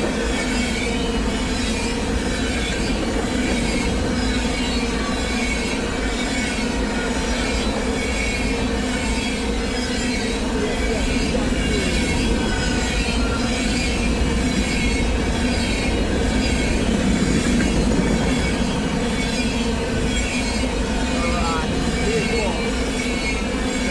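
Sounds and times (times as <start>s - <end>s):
train rolling over rails: 0.0s - 23.9s
wheels squealing: 0.0s - 23.9s.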